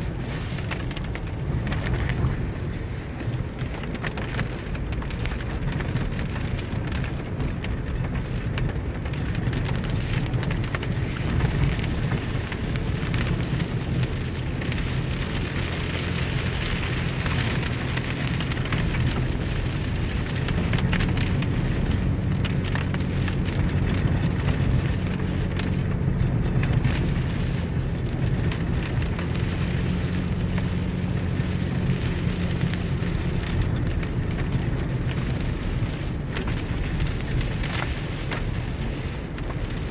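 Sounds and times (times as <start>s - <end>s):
car engine and tyre rumble: 0.0s - 39.9s
rain and spray hiss: 0.0s - 39.9s.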